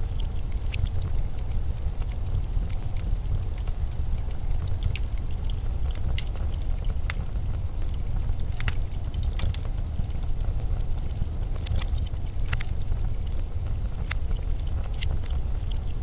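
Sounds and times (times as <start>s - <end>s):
sharp crackles and ticks: 0.0s - 16.0s.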